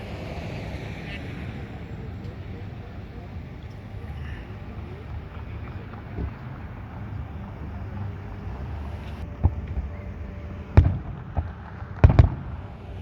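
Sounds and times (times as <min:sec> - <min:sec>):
fireworks bangs: 0:00.0 - 0:13.0
low rumble: 0:00.0 - 0:13.0.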